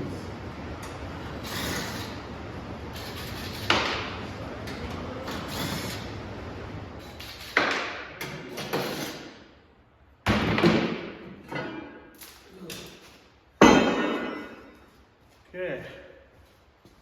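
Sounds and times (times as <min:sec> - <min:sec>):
workshop handling noise: 0:00.0 - 0:09.5, 0:10.2 - 0:15.1.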